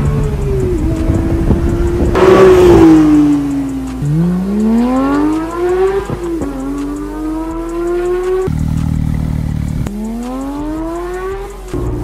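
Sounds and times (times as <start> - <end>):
sports car accelerating hard: 0.0 - 12.0.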